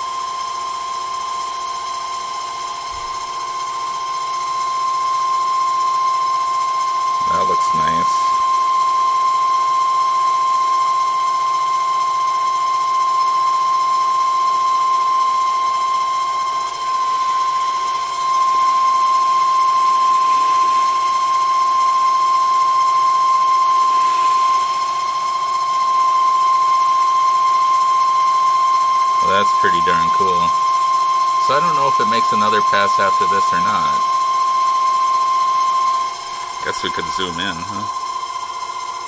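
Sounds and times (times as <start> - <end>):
lathe high whine: 0.0 - 39.0.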